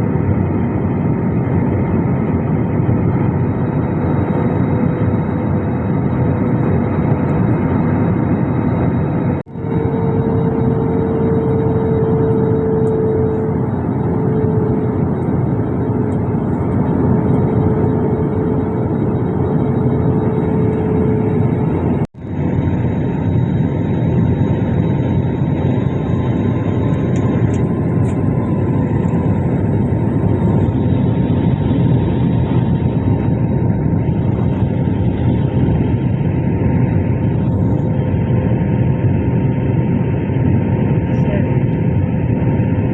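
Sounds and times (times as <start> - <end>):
jet engines and airflow in cabin: 0.0 - 42.9
steady hum: 0.0 - 42.9.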